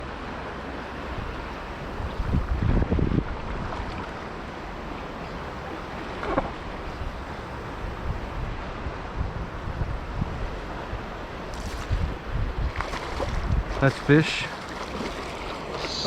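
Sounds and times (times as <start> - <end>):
river rushing: 0.0 - 16.0
wind buffeting microphone: 1.1 - 4.2, 6.2 - 16.0.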